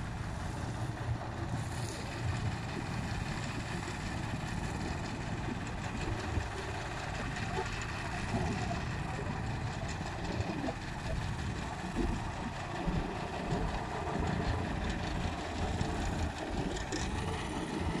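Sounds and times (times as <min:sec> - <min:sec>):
distant diesel engine running: 0:00.0 - 0:18.0.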